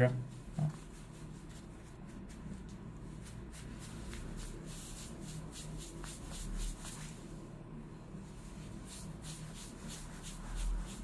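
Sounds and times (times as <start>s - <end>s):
low steady hum: 0.0s - 11.0s
brush dabbing on paper: 0.3s - 7.4s, 8.3s - 11.0s.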